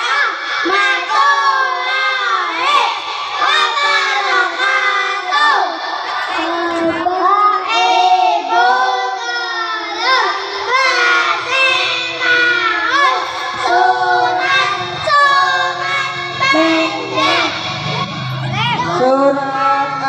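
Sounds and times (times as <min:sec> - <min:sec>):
boys chanting in unison: 0:00.0 - 0:20.0.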